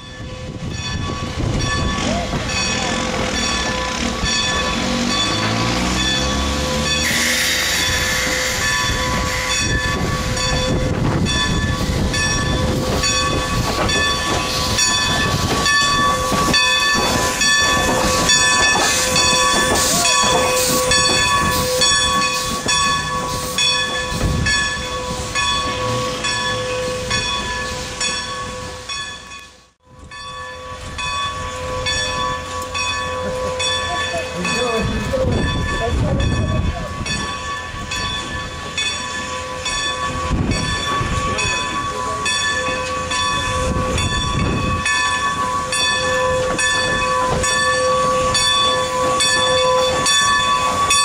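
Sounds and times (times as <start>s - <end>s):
steam locomotive rumble: 0.0s - 51.0s.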